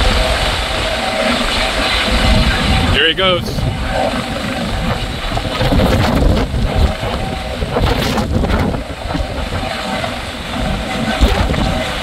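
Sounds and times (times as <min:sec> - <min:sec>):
helicopter hovering: 0:00.0 - 0:12.0
wind buffeting microphone: 0:00.0 - 0:12.0.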